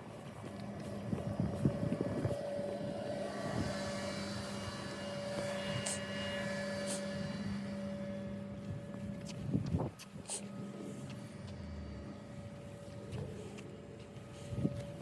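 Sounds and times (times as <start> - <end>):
machine humming and whining: 0.0 - 15.0.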